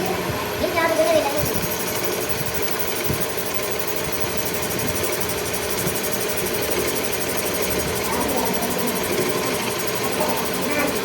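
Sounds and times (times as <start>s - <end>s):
workshop machinery droning: 0.0s - 11.0s.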